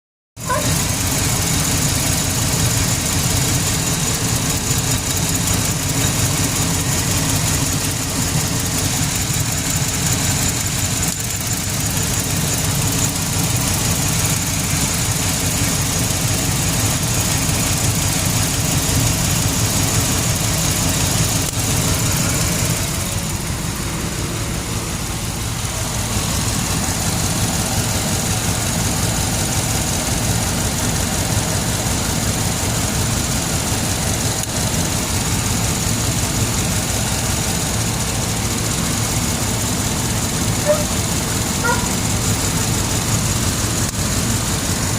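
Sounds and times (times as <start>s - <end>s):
truck engine idling: 0.4s - 44.9s.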